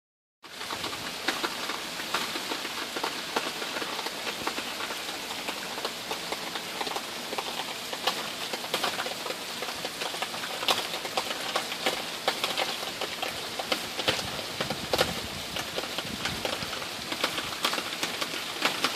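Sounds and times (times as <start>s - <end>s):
rain on pavement and plants: 0.4s - 18.9s
sharp raindrop ticks: 0.5s - 18.9s.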